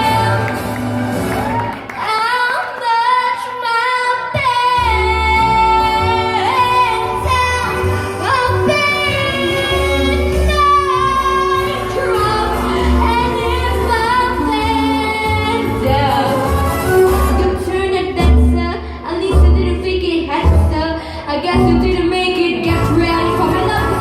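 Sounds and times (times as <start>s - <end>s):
backing music with bass: 4.5s - 24.0s.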